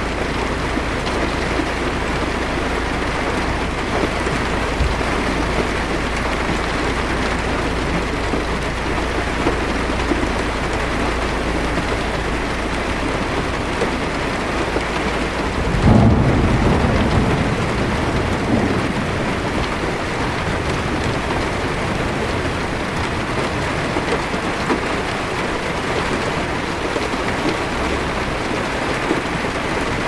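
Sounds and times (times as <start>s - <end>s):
heavy rain on car roof: 0.0s - 30.0s
thunder rumble: 0.0s - 30.0s.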